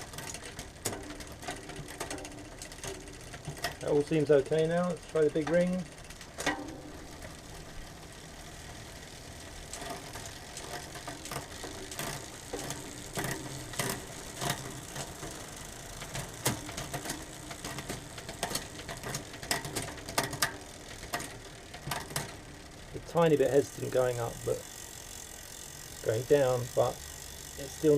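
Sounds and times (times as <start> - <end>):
bicycle chain shifting clicks: 0.0 - 27.9
bicycle drivetrain running: 0.0 - 27.9.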